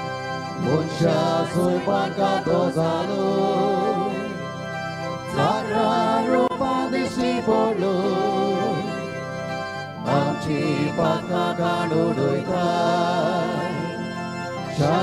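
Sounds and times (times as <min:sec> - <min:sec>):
held instrumental accompaniment: 0:00.0 - 0:15.0
hymn singing: 0:00.0 - 0:15.0.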